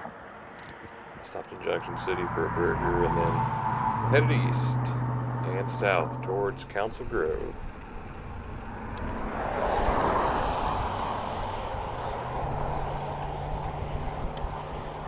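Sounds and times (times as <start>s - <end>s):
vehicle passing on road: 0.4s - 15.0s
steady low hum: 1.3s - 15.0s.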